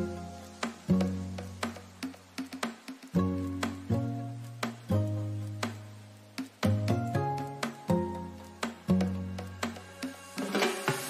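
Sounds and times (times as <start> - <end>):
background music with bass: 0.0 - 11.0
light percussion: 0.0 - 11.0.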